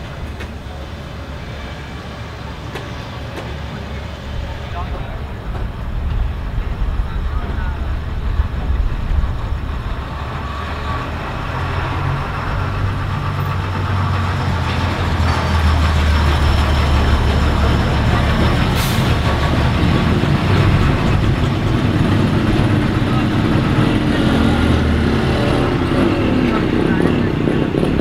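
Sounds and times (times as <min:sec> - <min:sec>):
diesel locomotive engine drone: 0:00.0 - 0:28.0.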